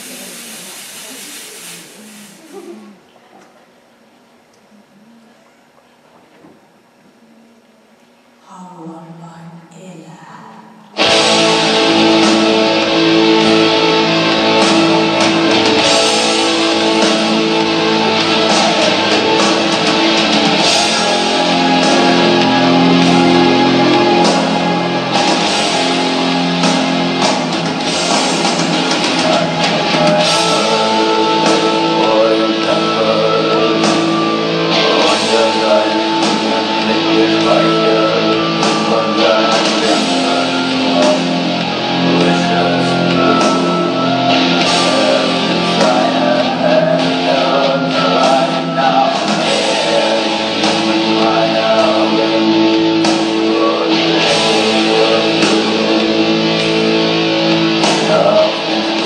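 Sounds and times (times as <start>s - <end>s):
rock music with singing: 11.0s - 59.0s.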